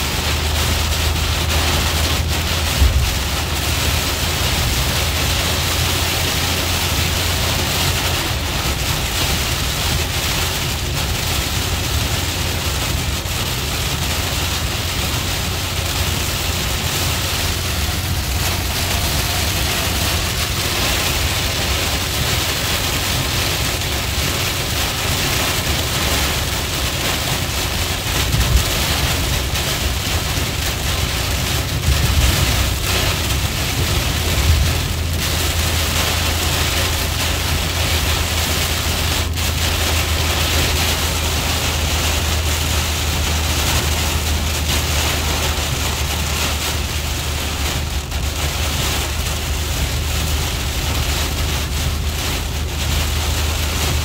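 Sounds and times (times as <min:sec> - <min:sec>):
car driving on wet road: 0:00.0 - 0:54.0
heavy rain on car windshield: 0:00.0 - 0:54.0.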